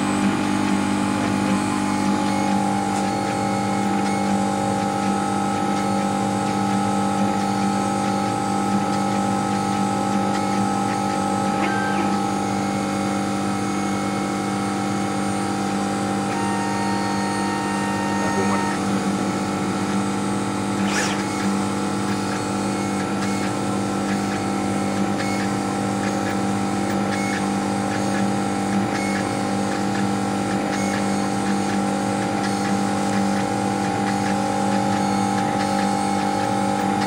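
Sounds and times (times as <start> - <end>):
laser cutter humming: 0.0 - 37.0.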